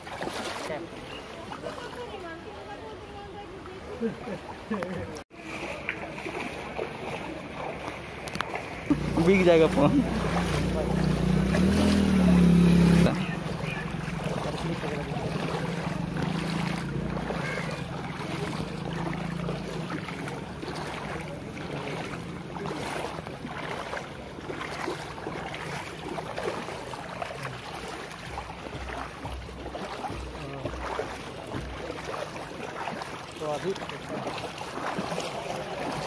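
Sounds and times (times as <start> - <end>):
water sloshing from wading: 0.0 - 36.0.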